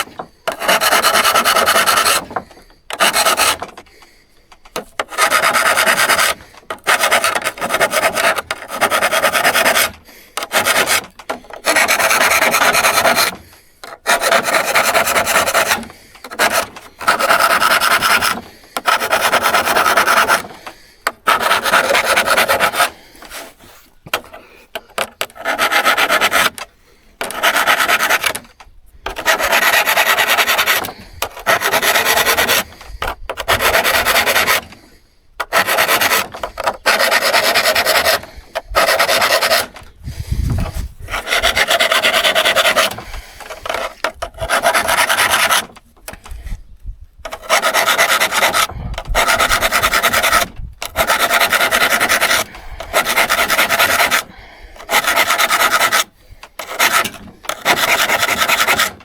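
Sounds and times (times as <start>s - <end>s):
file rasping on steel saw: 0.0s - 4.1s, 4.7s - 46.6s, 47.2s - 59.0s.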